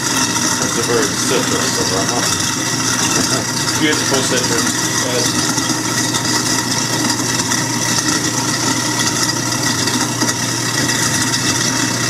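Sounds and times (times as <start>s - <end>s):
garbage disposal motor hum: 0.0s - 12.0s
tap water pouring into drain: 0.0s - 12.0s.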